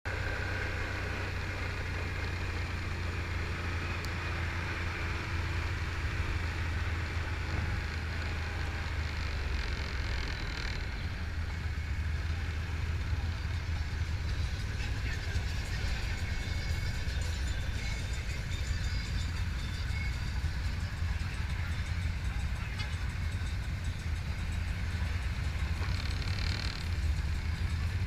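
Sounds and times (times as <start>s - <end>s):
engines droning: 0.1s - 28.0s.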